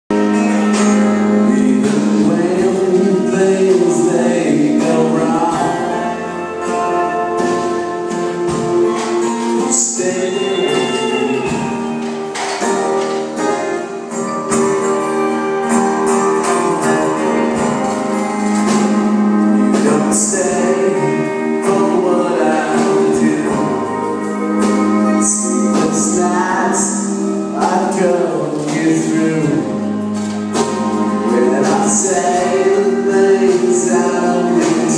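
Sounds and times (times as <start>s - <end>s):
person singing over a band: 0.2s - 13.9s, 16.0s - 34.9s.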